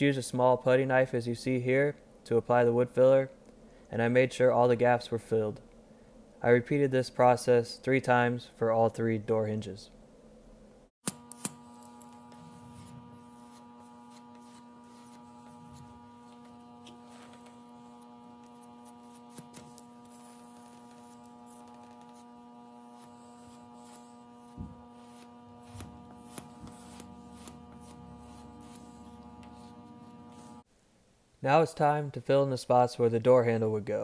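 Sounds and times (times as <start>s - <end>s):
steady electrical hum: 0.0s - 34.0s.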